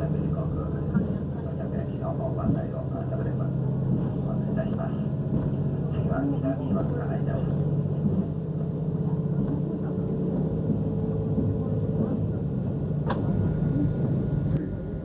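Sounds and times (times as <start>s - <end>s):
diesel train engine hum: 0.0s - 15.0s.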